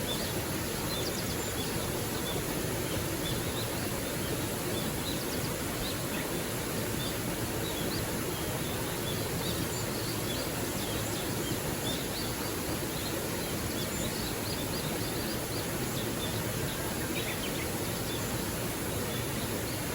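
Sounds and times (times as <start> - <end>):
small waterfall splashing: 0.0 - 19.9.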